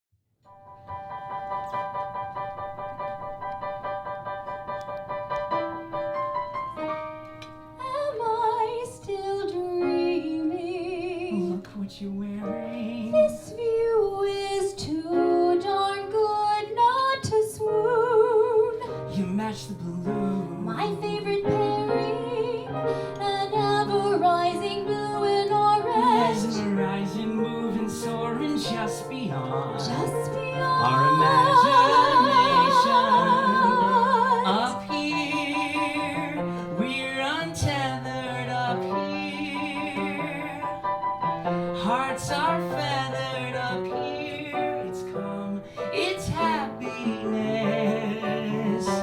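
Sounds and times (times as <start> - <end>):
grand piano chords: 0.5 - 49.0
woman singing with vibrato: 7.8 - 40.8, 41.8 - 49.0.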